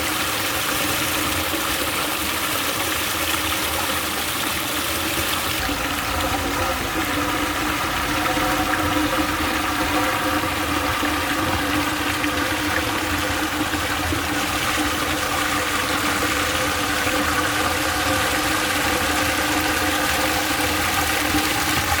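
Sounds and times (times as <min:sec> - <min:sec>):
water running: 0:00.0 - 0:22.0.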